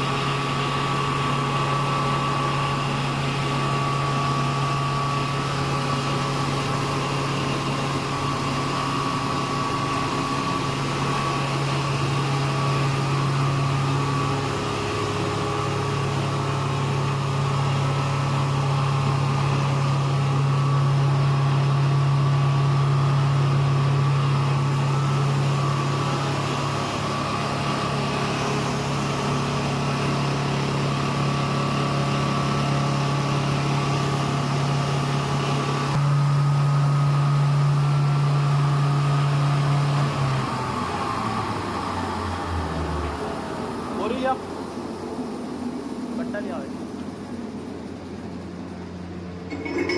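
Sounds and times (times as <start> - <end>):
grinder machine humming and whining: 0.0 - 43.2.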